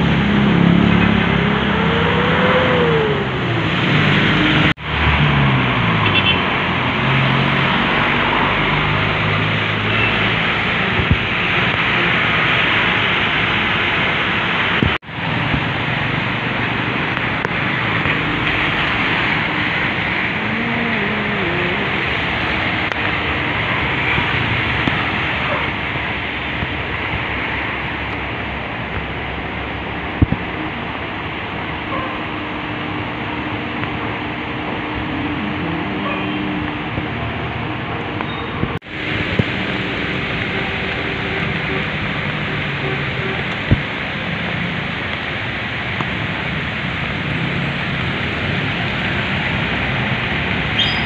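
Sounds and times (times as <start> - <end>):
rain and tyres hiss: 0.0 - 51.0
truck diesel engine: 0.0 - 51.0.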